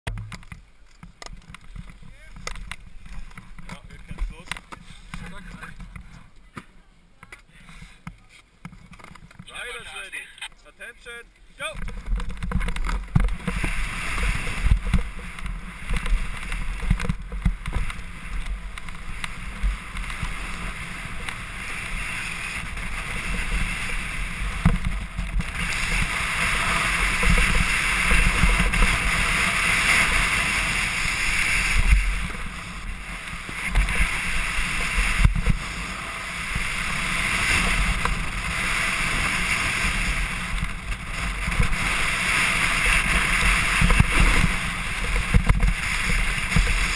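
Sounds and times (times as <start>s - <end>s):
wind rumbling on helmet: 0.1s - 6.4s, 11.7s - 46.9s
snowboard scraping packed snow: 1.1s - 6.3s, 11.0s - 46.9s.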